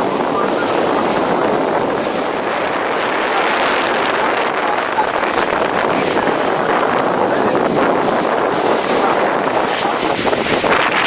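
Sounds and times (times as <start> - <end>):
rush of wind and water: 0.0 - 11.0
wind buffeting microphone: 0.0 - 11.0.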